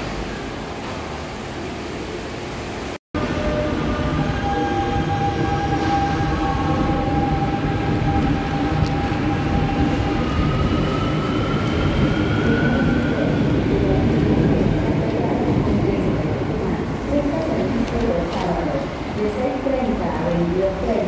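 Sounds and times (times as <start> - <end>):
train wheels rumbling on rails: 3.2 - 21.0.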